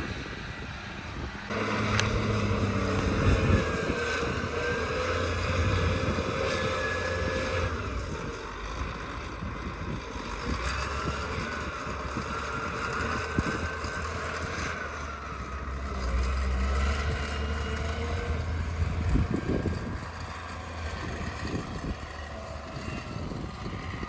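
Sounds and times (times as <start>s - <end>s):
engine running with whine: 0.0s - 24.0s.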